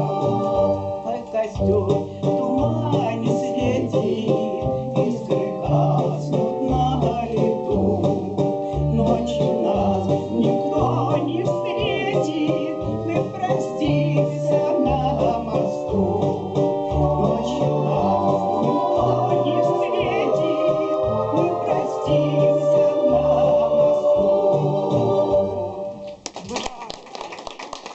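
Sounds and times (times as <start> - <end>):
electronic keyboard music: 2.3 - 26.1.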